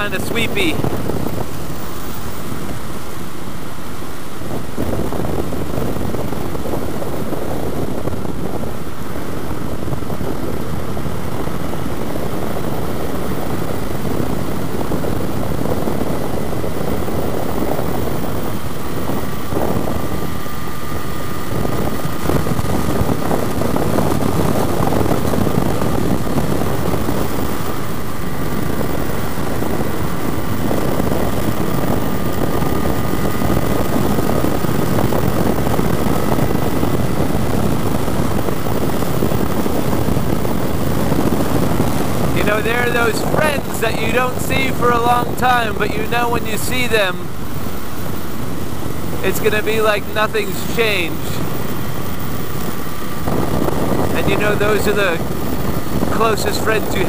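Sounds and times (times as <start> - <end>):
motorcycle engine droning: 0.0 - 57.0
wind rush over microphone: 0.0 - 57.0.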